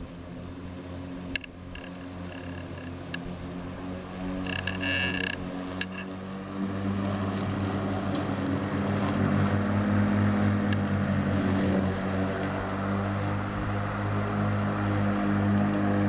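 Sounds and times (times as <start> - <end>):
electric lawn tractor hum: 0.0 - 16.0.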